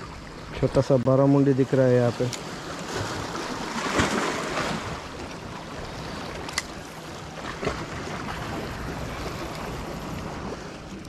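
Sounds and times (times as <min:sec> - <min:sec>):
sea waves splashing against rocks: 0:01.6 - 0:11.0.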